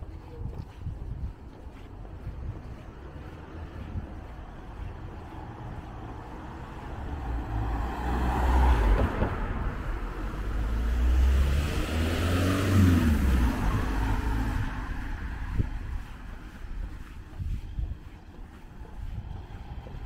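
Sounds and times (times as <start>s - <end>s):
motor vehicles passing: 0.0s - 20.0s.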